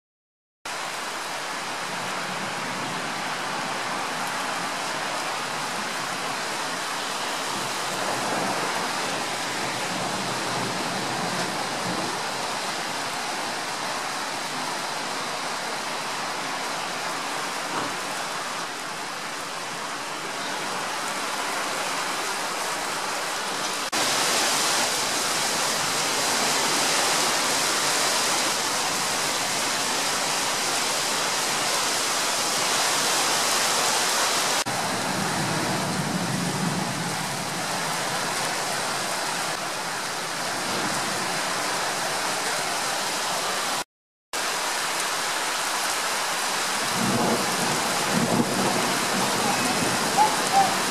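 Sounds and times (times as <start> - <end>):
steady downpour of rain: 0.7 - 43.8, 44.4 - 50.9.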